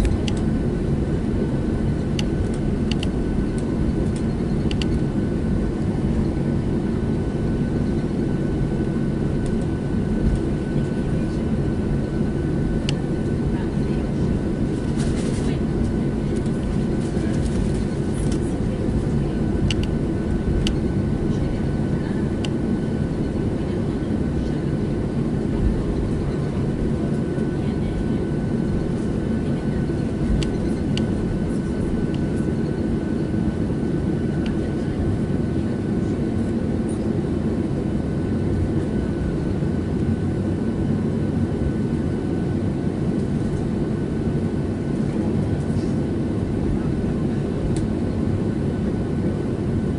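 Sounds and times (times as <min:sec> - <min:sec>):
low rumble of engines and airflow: 0:00.0 - 0:49.9.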